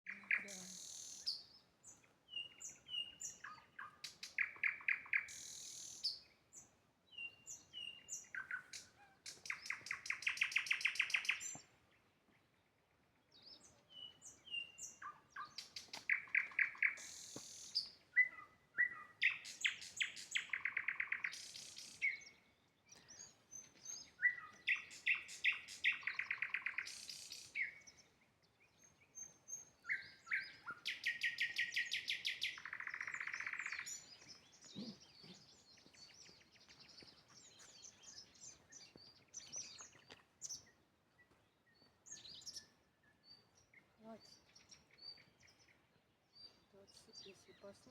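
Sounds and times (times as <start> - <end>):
nightingale singing: 0.1 - 11.7, 13.3 - 40.8.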